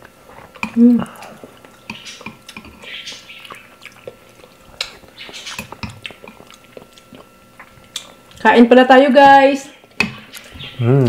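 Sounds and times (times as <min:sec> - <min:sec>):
chewing: 0:00.0 - 0:08.4, 0:09.8 - 0:10.8.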